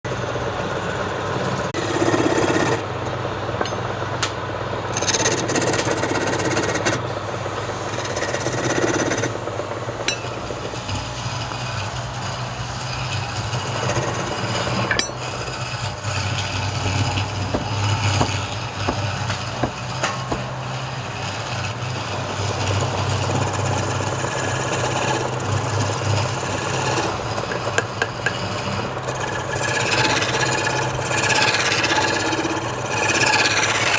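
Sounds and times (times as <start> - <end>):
lathe motor hum: 0.1 - 33.9
tool scraping spinning wood: 1.4 - 3.9, 4.9 - 33.9.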